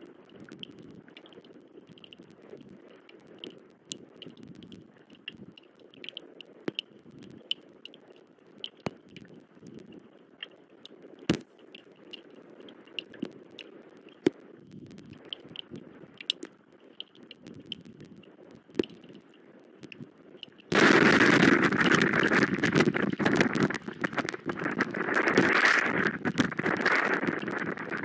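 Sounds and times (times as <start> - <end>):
rain drops tapping: 0.0 - 28.0
soft patchy rustle: 0.0 - 28.0.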